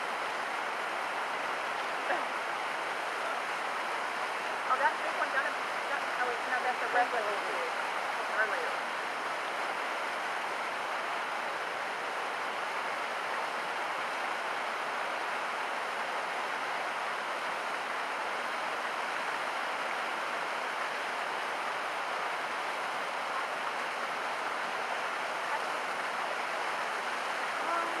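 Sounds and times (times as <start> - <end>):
flowing water: 0.0 - 28.0.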